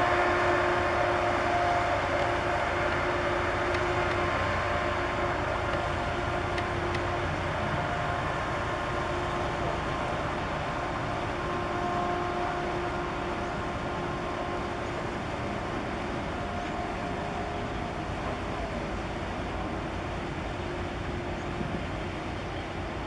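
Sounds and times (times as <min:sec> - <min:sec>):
ship engines rumbling: 0:00.0 - 0:23.0.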